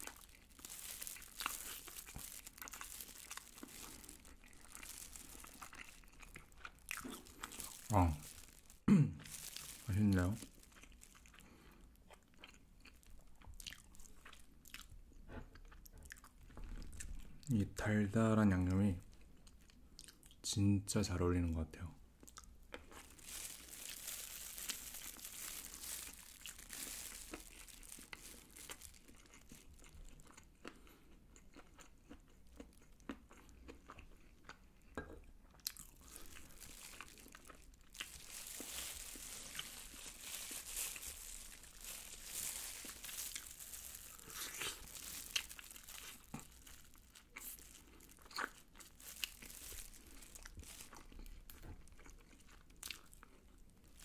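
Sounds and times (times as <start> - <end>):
chewing food: 0.0 - 17.6, 18.7 - 20.4, 22.2 - 54.0
crunching of fried coating: 0.0 - 20.5, 22.2 - 54.0.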